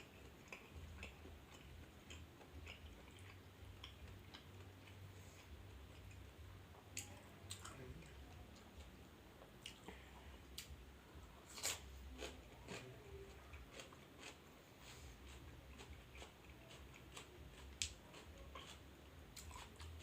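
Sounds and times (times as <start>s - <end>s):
person chewing: 0.0s - 6.3s, 7.0s - 20.0s.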